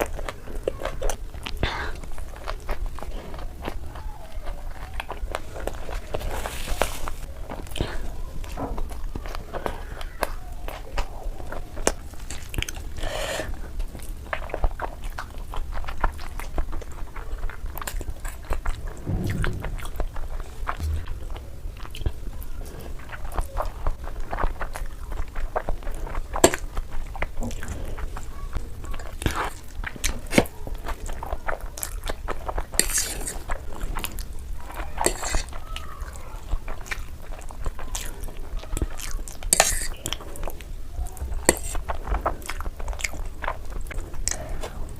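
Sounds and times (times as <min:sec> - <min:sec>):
person chewing noodles: 0:00.0 - 0:44.9.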